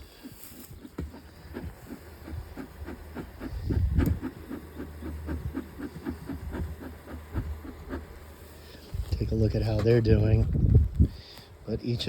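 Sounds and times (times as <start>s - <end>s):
smoker bellows hissing chuffs: 0.0s - 10.1s.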